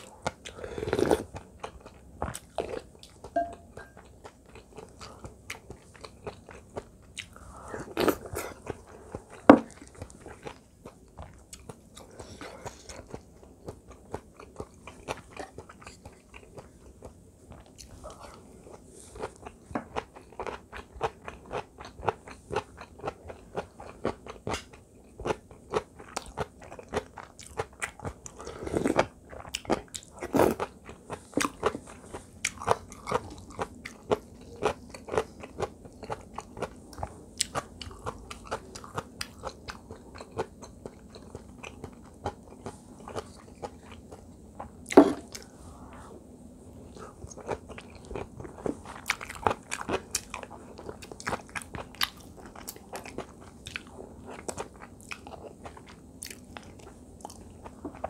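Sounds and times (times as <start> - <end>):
wet chewing and crunching: 0.0 - 45.5, 46.9 - 58.0.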